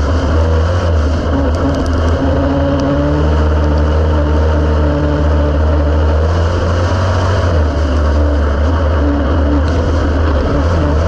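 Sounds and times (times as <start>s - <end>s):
race car engine drone: 0.0s - 11.0s.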